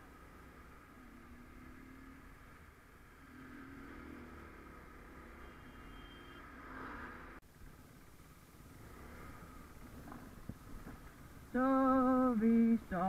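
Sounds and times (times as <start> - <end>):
motorcycle engine: 0.0 - 13.0
road rumble: 0.0 - 13.0.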